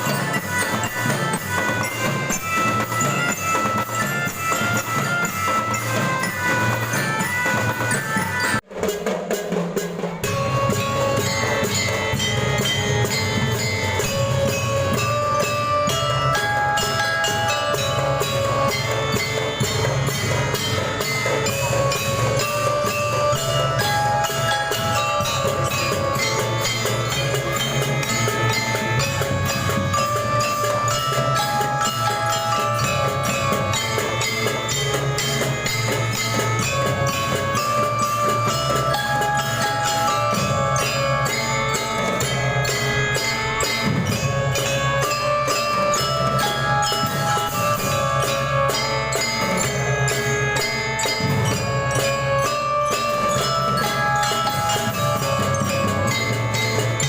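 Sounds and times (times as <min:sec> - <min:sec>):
bell melody: 0:00.0 - 0:57.0
fast dense drumming: 0:00.0 - 0:57.0.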